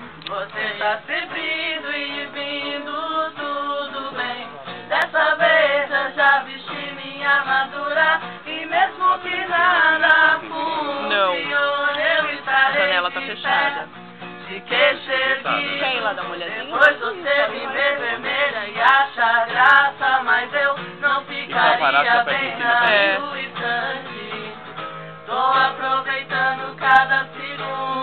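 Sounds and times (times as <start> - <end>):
guitar accompaniment: 0.0 - 28.0
people singing: 0.2 - 28.0.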